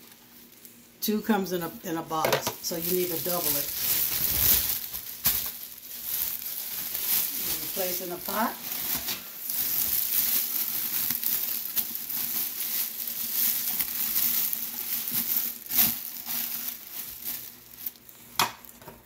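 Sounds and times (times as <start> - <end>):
plastic bags crinkling: 0.0 - 18.8.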